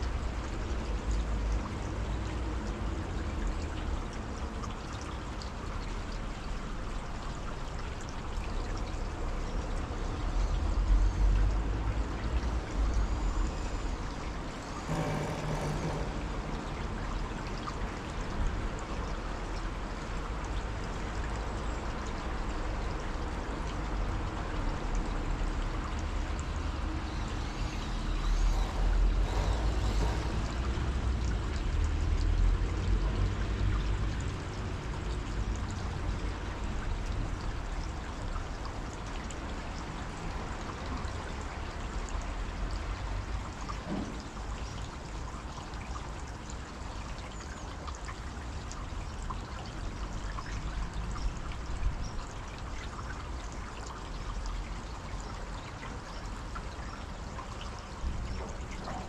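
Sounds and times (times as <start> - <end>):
water rushing and splashing: 0.0 - 59.0.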